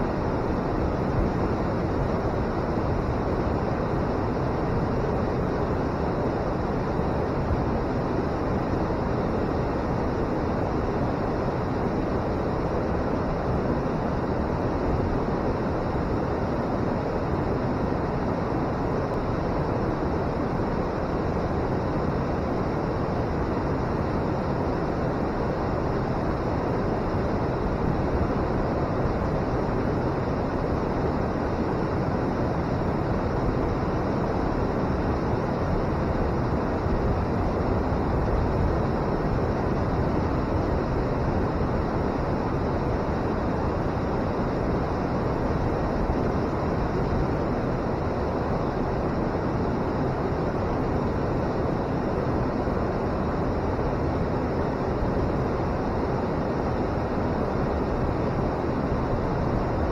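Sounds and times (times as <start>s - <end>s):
water roaring over a weir: 0.0s - 59.9s.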